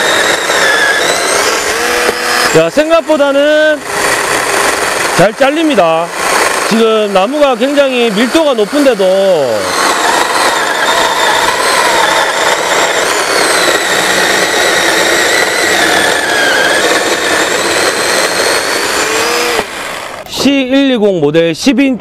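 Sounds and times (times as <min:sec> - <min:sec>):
chainsaw cutting through log: 0:00.0 - 0:20.4.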